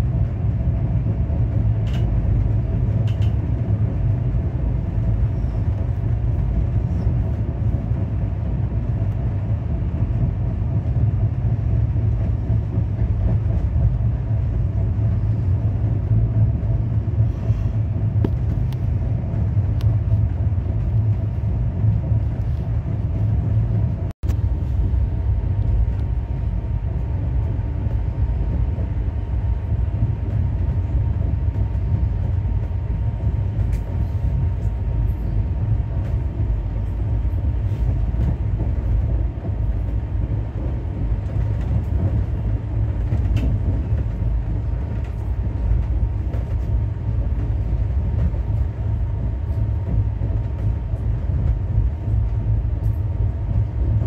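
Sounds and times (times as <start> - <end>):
train coach rumbling on track: 0.0 - 54.0.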